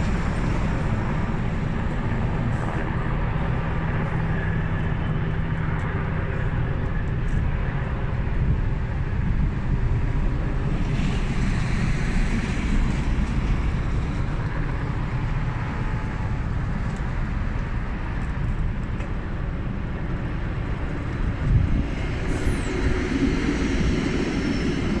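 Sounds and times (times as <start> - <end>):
distant helicopter drone: 0.0 - 25.0.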